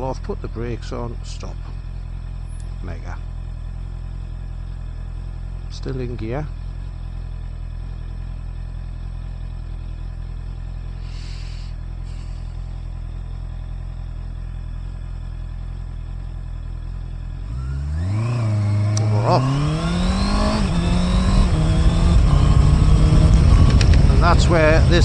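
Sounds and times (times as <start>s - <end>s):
motorcycle engine idling: 0.0s - 25.0s
motorcycle revving and pulling away: 1.6s - 25.0s.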